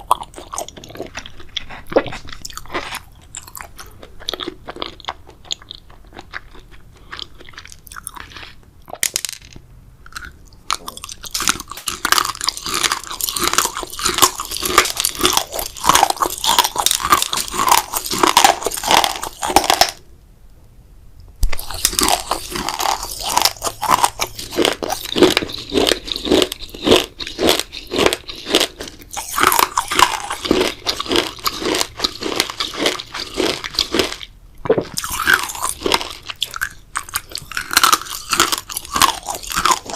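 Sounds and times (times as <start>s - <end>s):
person biting and chewing jelly: 0.0s - 9.0s, 10.0s - 20.1s, 21.4s - 39.9s.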